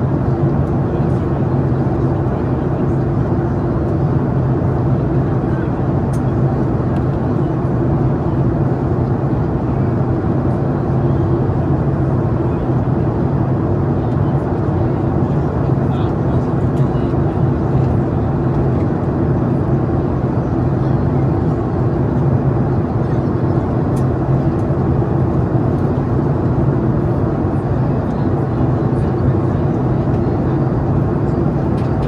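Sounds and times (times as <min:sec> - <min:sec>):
jet engine cabin hum: 0:00.0 - 0:32.0.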